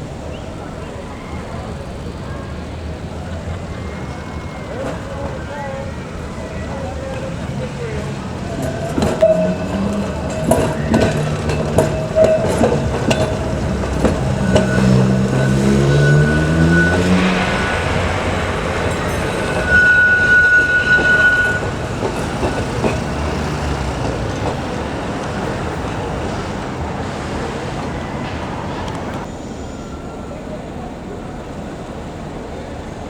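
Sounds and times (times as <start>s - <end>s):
electric tram motors whining: 0.0s - 33.0s
wheels clicking on rails: 0.0s - 33.0s
high steady squeal: 0.4s - 33.0s.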